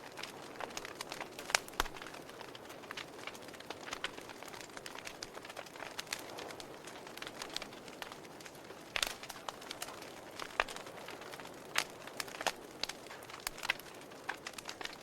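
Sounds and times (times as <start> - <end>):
soft steady hiss: 0.0 - 15.0
wood fire crackling and popping: 0.0 - 15.0.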